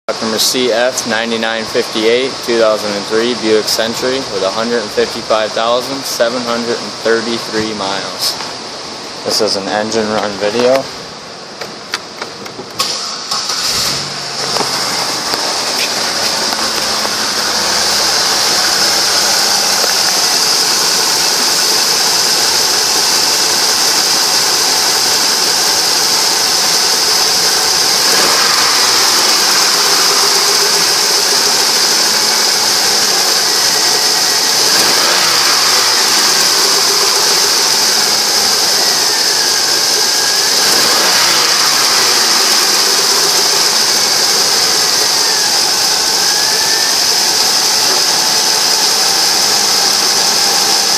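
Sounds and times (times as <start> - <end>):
steady high hiss: 0.1 - 12.0, 12.7 - 50.9
car engine starting and idling: 0.1 - 50.9.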